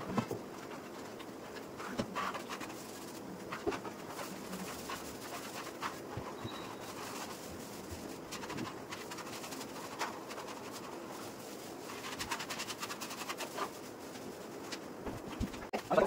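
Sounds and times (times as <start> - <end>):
painting tool scratching on wall: 0.0 - 16.0.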